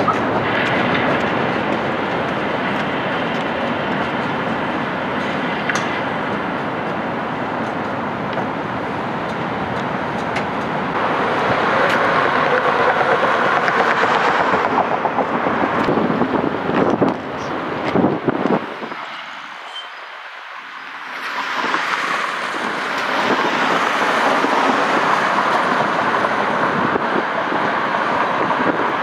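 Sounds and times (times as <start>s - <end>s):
tram rattling: 0.0s - 29.0s
tram wheels rumbling on rail: 0.0s - 29.0s.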